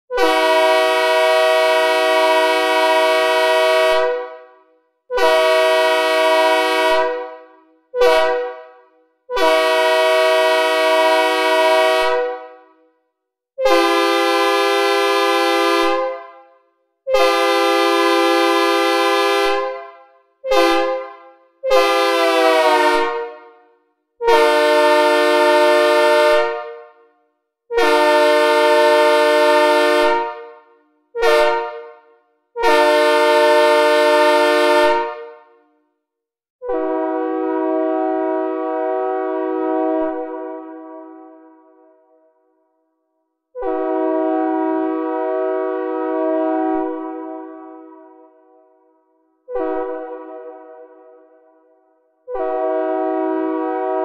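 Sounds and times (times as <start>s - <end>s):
synthesized locomotive air horn blasts: 0.0s - 13.0s, 13.6s - 27.1s, 27.7s - 35.7s, 36.6s - 42.4s, 43.5s - 54.0s.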